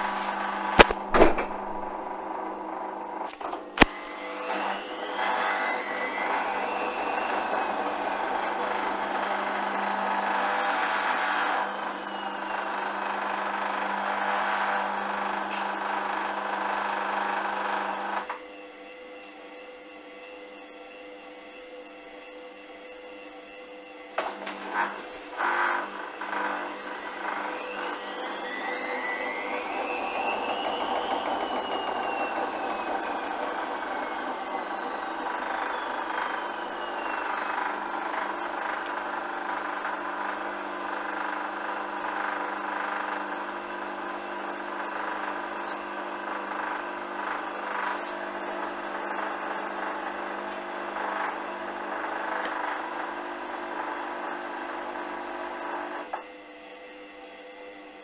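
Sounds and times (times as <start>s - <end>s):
washing machine motor whining: 0.0s - 58.0s.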